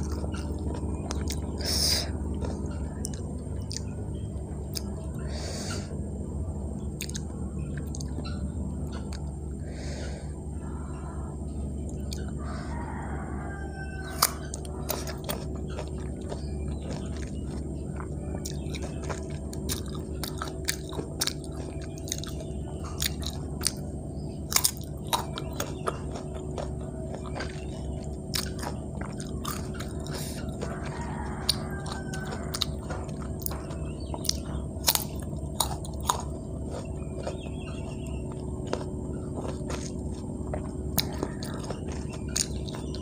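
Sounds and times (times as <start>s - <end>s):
crunching and chewing fruit: 0.0s - 43.0s
low hum: 0.0s - 43.0s.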